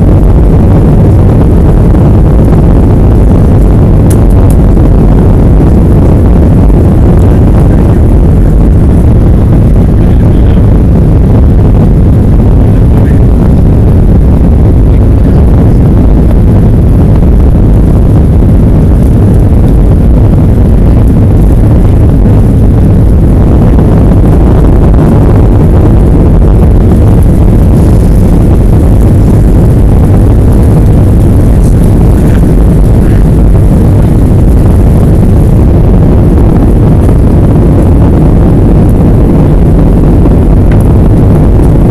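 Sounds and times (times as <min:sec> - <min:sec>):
jet engines rumbling in cabin: 0:00.0 - 0:41.9.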